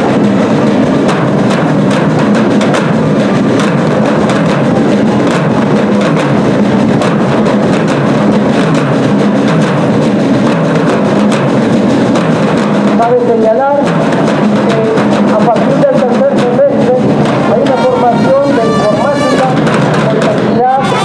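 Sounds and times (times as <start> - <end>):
bass drum: 0.0 - 21.0
marching drums beating: 0.0 - 21.0.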